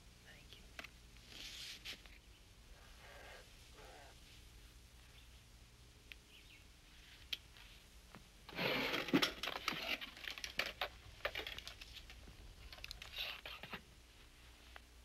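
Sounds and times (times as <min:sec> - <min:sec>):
rustling: 0:01.2 - 0:05.3, 0:06.8 - 0:15.0.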